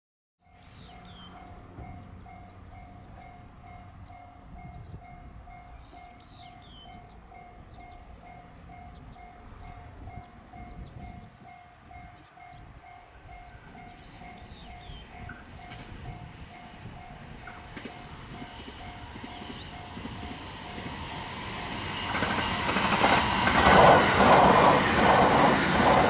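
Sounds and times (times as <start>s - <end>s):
low rumble of train: 0.4s - 26.0s.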